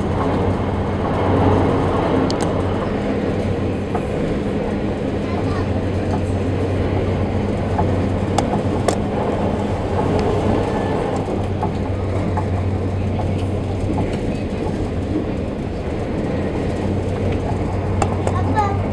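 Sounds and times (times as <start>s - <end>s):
ferry engines droning: 0.0s - 18.9s.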